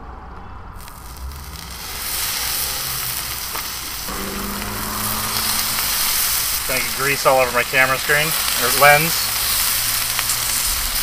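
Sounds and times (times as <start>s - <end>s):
bacon sizzling on a griddle: 0.8s - 11.0s.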